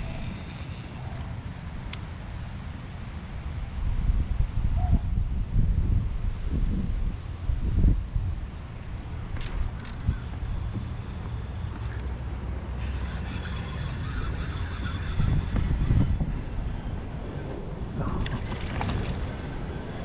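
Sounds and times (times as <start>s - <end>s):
wind rumbling on microphone: 0.0s - 1.7s, 2.6s - 20.0s.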